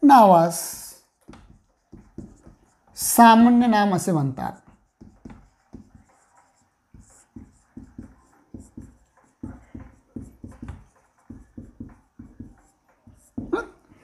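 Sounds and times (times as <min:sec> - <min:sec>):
marker writing on whiteboard: 0:00.1 - 0:14.0.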